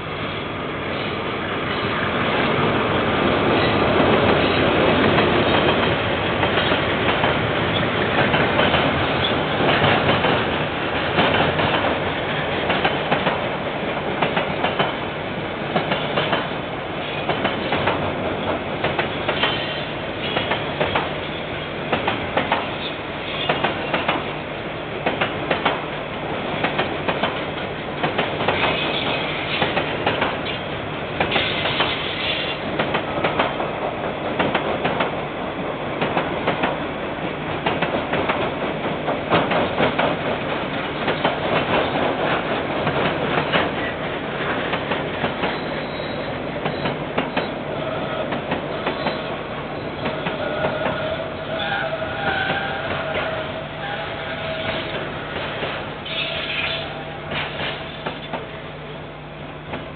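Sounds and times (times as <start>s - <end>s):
freight train wagons rumbling: 0.0s - 59.9s
wheels clacking over rail joints: 1.7s - 15.1s, 15.7s - 21.3s, 21.9s - 24.4s, 25.0s - 25.9s, 26.5s - 35.3s, 36.0s - 58.6s.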